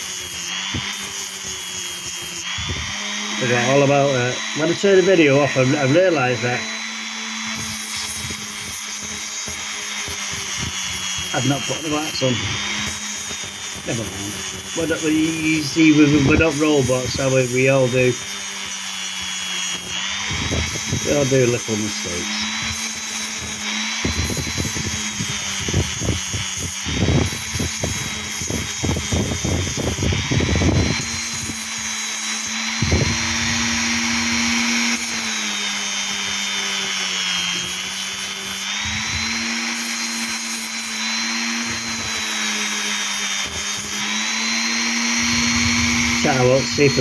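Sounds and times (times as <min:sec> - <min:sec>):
power tool grinding stone: 0:00.0 - 0:47.0.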